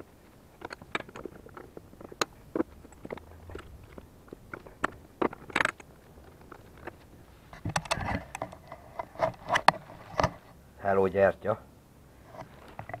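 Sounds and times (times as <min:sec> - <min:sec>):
tools clicking and scraping: 0:00.0 - 0:10.5.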